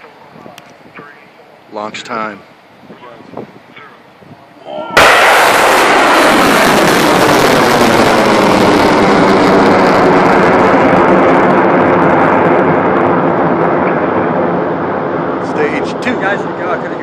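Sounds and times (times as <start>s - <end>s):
rocket engine crackling rumble: 0.0s - 17.0s.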